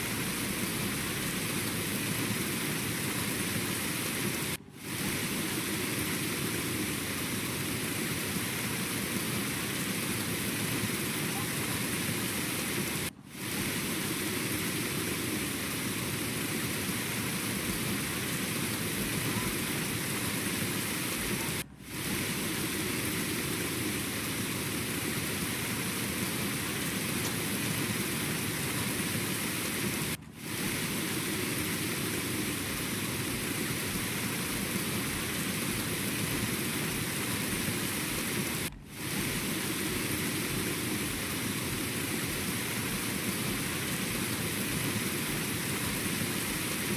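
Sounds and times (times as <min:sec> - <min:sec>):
rain-like rushing noise: 0:00.0 - 0:46.9.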